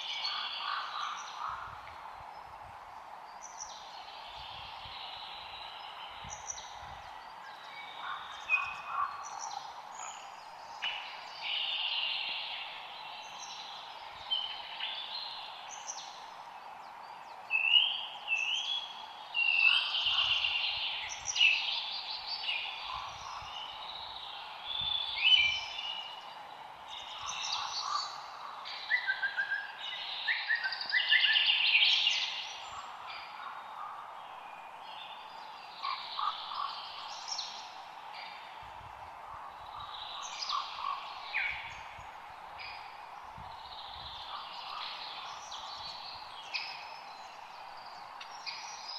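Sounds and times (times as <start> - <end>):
background hiss: 0.0 - 48.9
birds chirping and trilling: 0.0 - 48.9.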